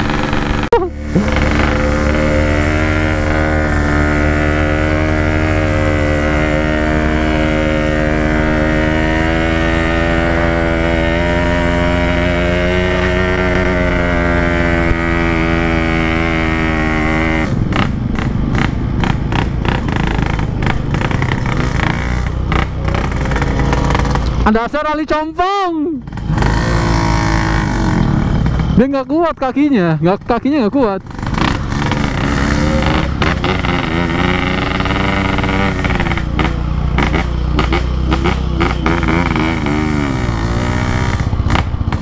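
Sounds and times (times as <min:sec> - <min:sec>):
two-stroke motorcycle engine: 0:00.0 - 0:42.0.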